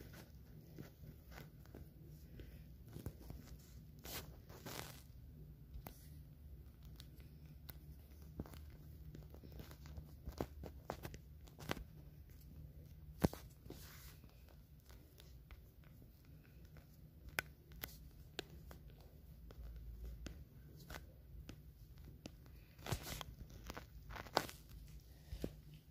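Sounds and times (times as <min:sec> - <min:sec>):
light clicks and rustles: 0:00.0 - 0:25.9
low steady hum: 0:00.0 - 0:25.9.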